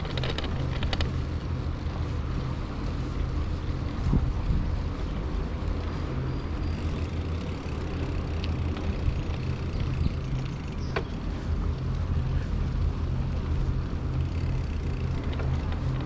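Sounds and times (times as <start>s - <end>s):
bicycle rolling noise: 0.0s - 16.0s
wind on microphone: 0.0s - 16.0s.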